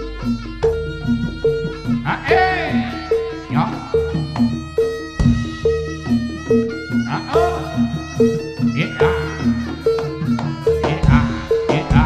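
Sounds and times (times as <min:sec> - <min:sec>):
live dance music: 0:00.0 - 0:12.0.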